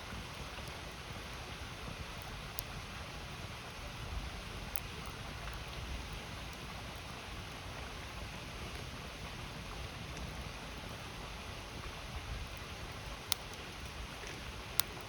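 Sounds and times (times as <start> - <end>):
fire popping: 0.0 - 8.0, 8.6 - 15.0
campfire crackling: 0.0 - 15.0.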